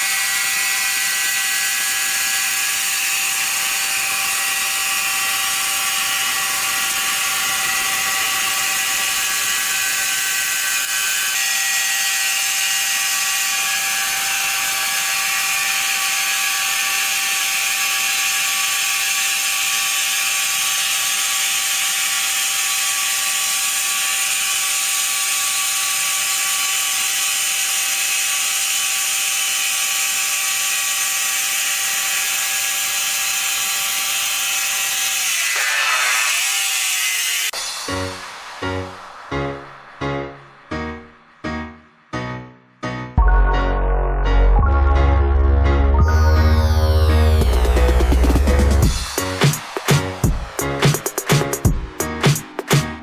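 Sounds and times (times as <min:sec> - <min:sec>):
sawmill machinery whine and hiss: 0:00.0 - 0:41.7, 0:46.1 - 0:53.0.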